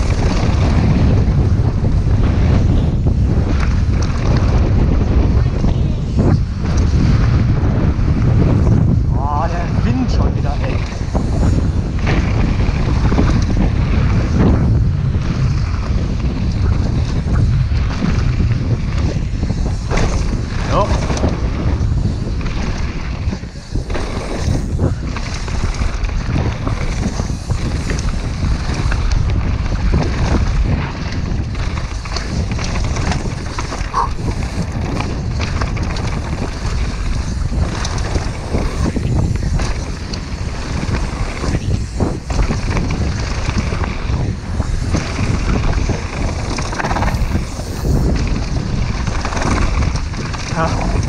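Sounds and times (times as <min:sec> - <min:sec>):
bike knocks and rattles: 0:00.0 - 0:51.0
wind buffeting microphone: 0:00.0 - 0:51.0.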